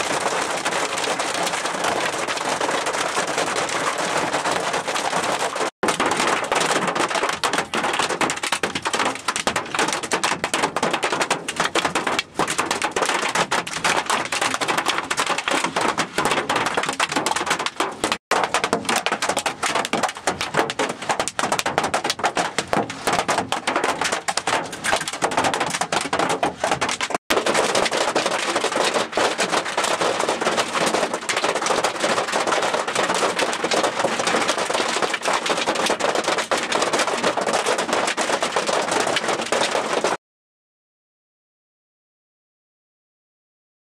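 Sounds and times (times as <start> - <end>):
heavy rain on vehicle roof: 0.0 - 40.2.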